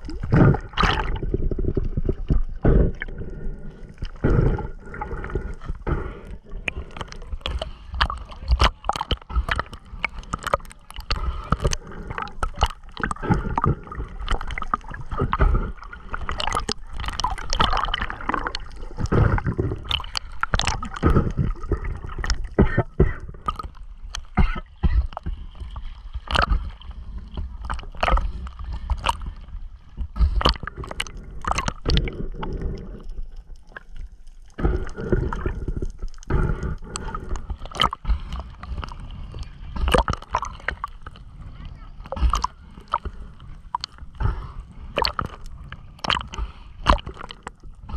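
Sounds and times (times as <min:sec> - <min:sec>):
water slapping against camera: 0:00.0 - 0:41.3, 0:42.0 - 0:47.9
seawater sloshing and gurgling: 0:00.0 - 0:47.9.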